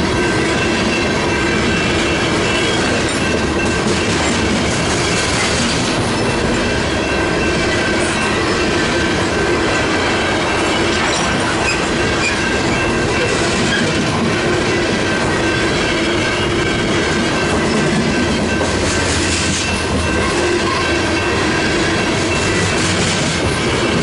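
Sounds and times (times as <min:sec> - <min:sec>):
steel wheels clattering on rail: 0:00.0 - 0:24.0.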